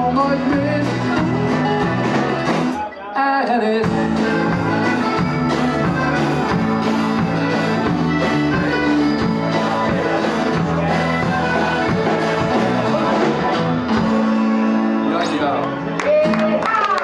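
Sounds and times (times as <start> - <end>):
instrumental rock band playing: 0.0 - 17.0.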